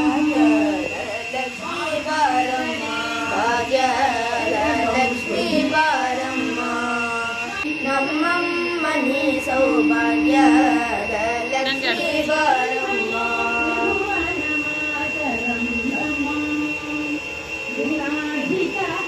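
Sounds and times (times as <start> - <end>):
devotional song with sung melody: 0.0 - 19.0.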